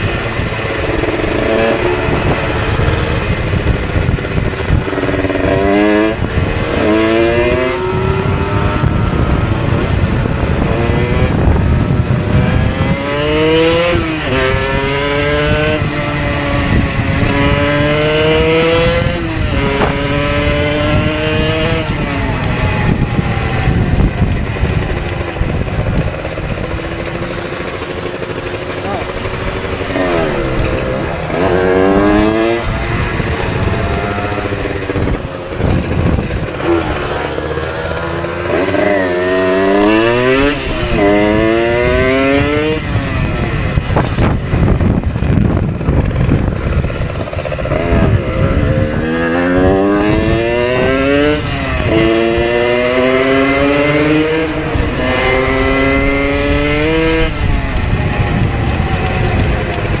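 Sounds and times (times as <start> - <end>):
moped engine accelerating: 0.0 - 60.0
wind on microphone: 0.0 - 60.0.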